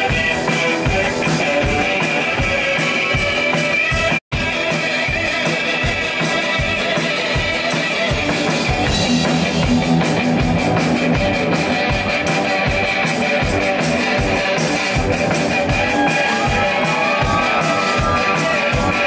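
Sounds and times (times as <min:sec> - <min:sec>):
drum kit beat: 0:00.0 - 0:19.0
rock band playing: 0:00.0 - 0:19.0
strummed electric guitar: 0:00.0 - 0:19.0.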